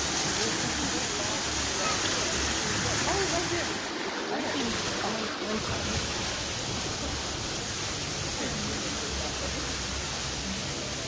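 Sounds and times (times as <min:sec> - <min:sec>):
water falling over rocks: 0:00.0 - 0:11.0.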